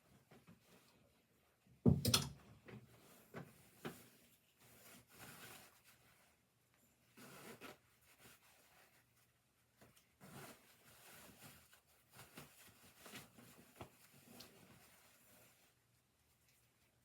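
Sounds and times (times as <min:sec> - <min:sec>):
faint rustling and handling: 0:00.0 - 0:17.0.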